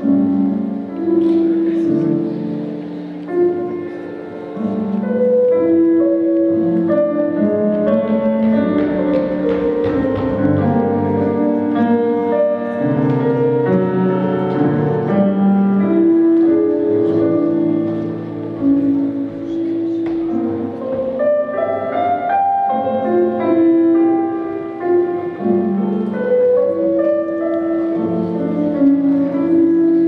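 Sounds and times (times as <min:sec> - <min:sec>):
instrumental backing music: 0:00.0 - 0:30.0.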